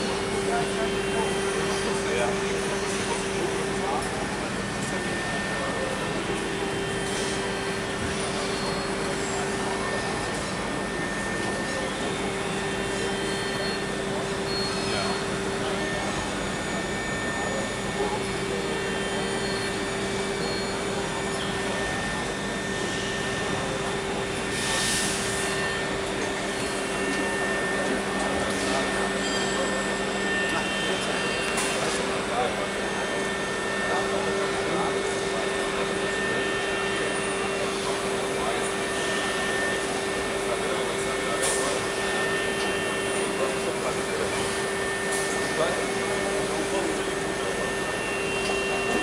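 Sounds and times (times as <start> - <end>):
milling machine spindle whine: 0.0 - 49.0.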